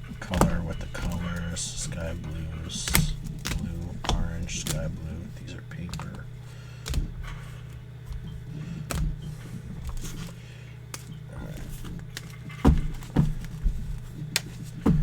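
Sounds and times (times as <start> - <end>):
cards tapping on a table: 0.0 - 15.0.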